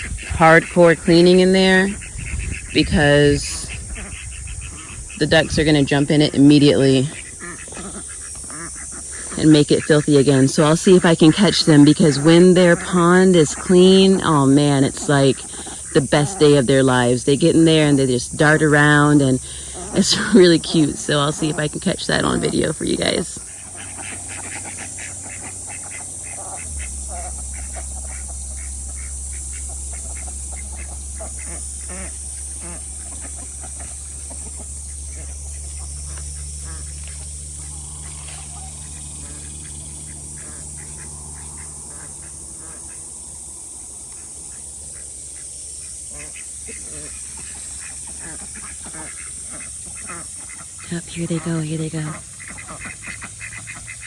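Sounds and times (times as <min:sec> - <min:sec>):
ducks quacking: 0:00.0 - 0:54.0
steady low hum: 0:00.0 - 0:54.0
water running into pond: 0:00.0 - 0:54.0.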